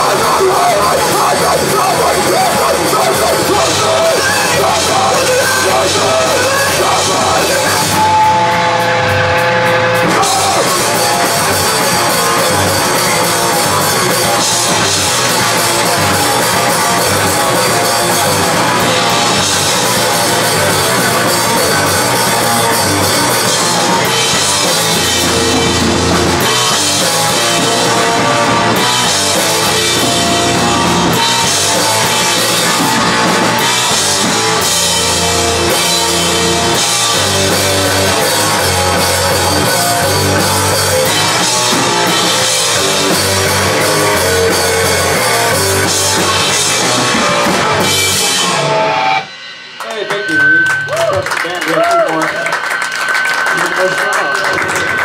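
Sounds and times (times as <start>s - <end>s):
drum kit with cymbals: 0.0s - 51.2s
electric guitar: 0.0s - 55.0s.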